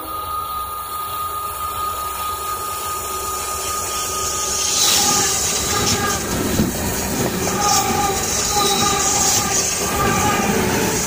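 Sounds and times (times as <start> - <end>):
train rushing rumble: 0.0 - 11.0.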